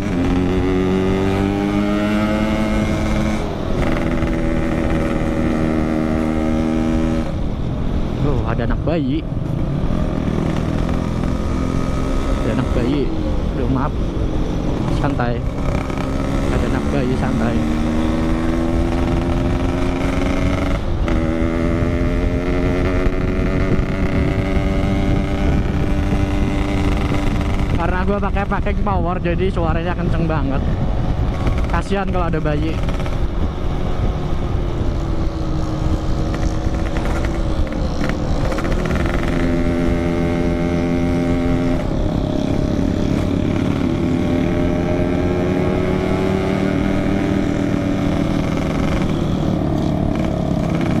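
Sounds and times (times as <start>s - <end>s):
loud two-stroke motorcycle engine: 0.0s - 7.4s, 9.9s - 51.0s.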